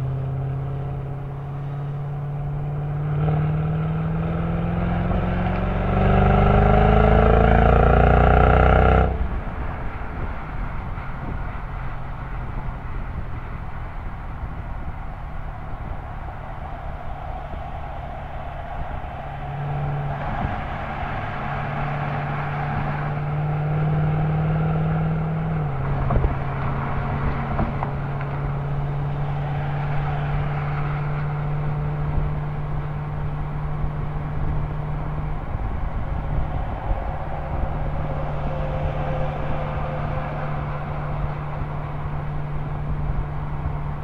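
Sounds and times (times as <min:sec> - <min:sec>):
car exhaust while driving: 0:00.0 - 0:44.0
road and wind noise: 0:00.0 - 0:44.0.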